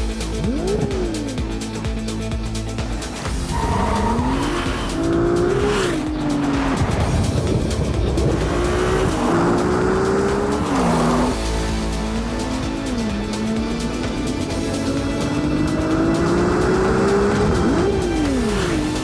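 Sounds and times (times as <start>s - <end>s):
background music: 0.0s - 19.0s
sports car engine revving: 0.0s - 19.0s.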